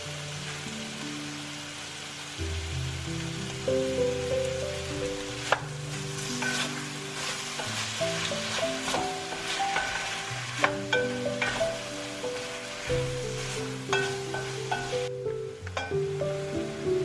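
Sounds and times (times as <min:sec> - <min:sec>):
food sizzling in a pan: 0:00.0 - 0:17.0
soft background music: 0:00.0 - 0:17.0.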